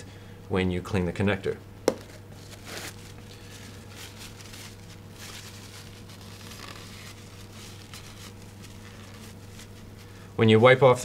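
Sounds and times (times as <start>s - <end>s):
steady low hum: 0.0s - 11.0s
paper wipe rustling: 2.1s - 11.0s.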